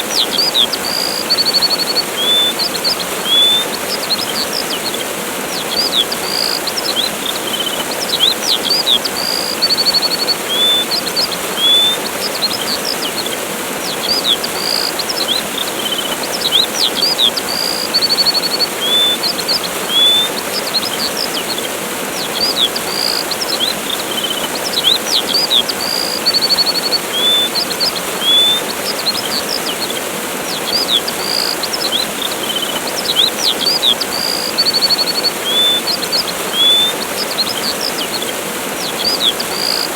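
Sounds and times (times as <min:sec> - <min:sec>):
small birds chirping: 0:00.0 - 0:39.9
waterfall rushing: 0:00.0 - 0:39.9.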